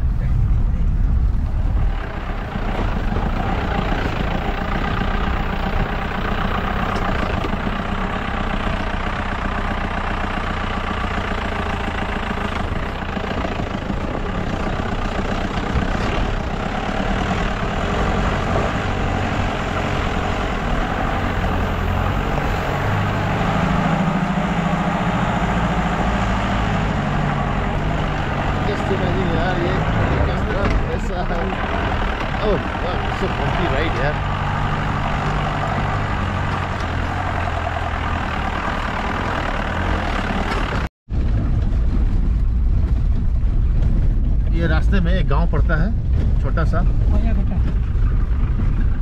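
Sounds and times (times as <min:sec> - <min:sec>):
jeep engine running: 0:00.0 - 0:49.0
tyre and road noise: 0:00.0 - 0:49.0.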